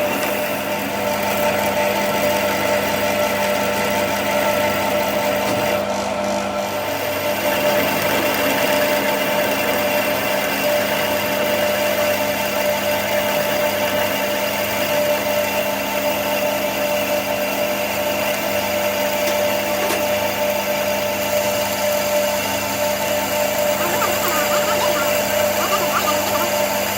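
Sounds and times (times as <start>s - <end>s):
workshop machine humming: 0.0s - 26.9s.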